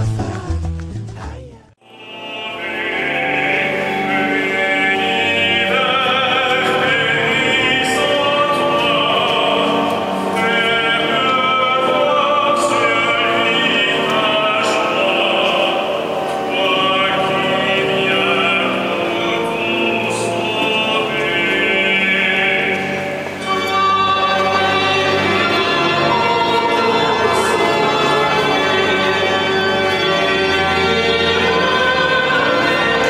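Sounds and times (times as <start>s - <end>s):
choir singing: 1.8s - 33.0s.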